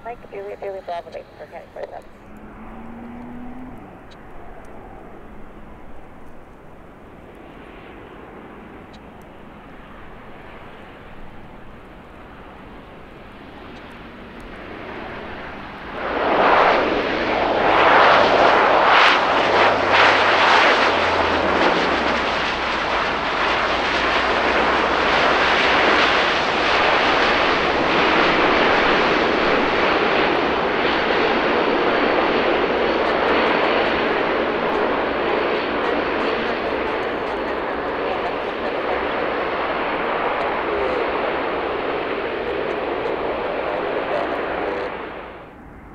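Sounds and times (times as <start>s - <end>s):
jet engines rushing: 0.0s - 45.9s.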